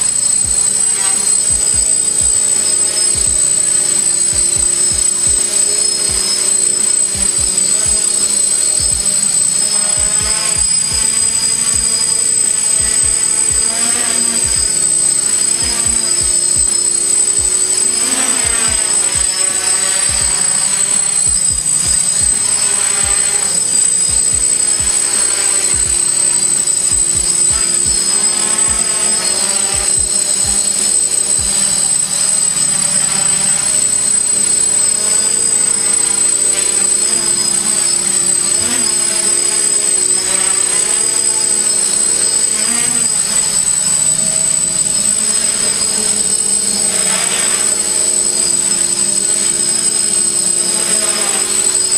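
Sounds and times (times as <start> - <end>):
drone motors whining: 0.0 - 51.9.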